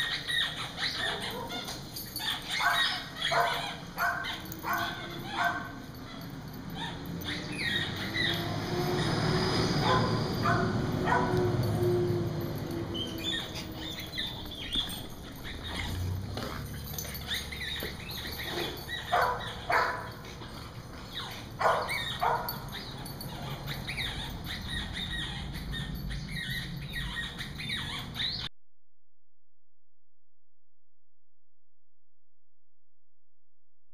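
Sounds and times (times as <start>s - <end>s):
small dogs barking and yipping: 0.0s - 28.5s.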